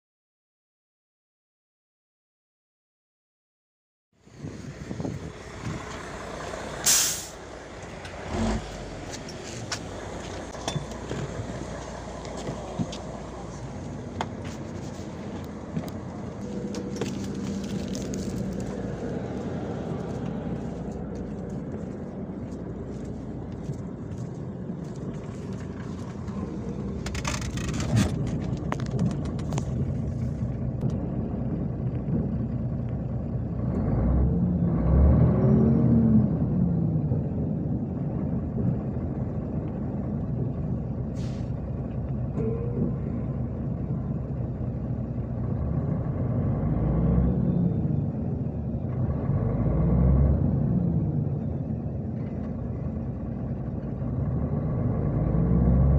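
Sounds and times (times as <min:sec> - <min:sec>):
diesel engine running: 0:04.2 - 0:55.9.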